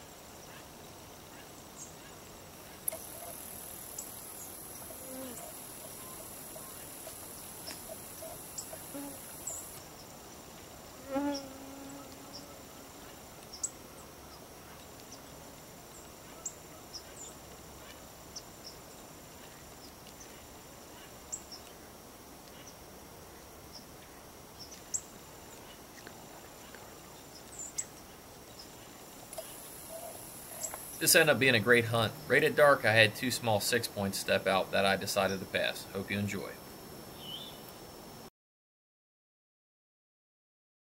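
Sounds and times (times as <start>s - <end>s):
insect chorus: 0.0s - 38.3s.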